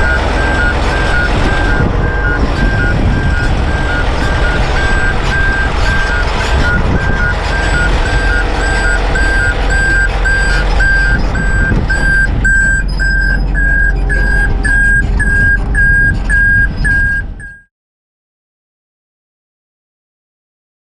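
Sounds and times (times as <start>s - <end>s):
backup alarm beeping: 0.0s - 17.7s
diesel engine rumble: 0.0s - 17.7s.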